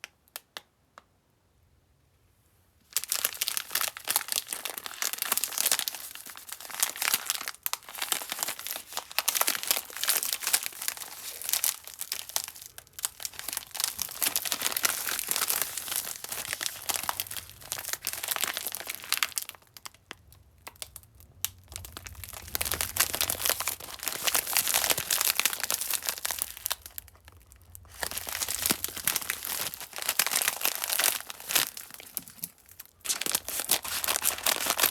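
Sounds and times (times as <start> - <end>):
candy wrapper crinkling and tearing: 2.9 - 34.9.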